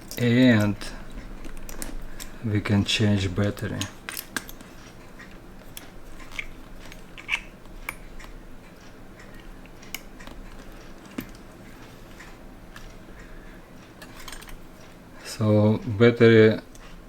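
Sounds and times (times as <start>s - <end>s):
metal tools clicking and tapping: 0.0s - 15.0s.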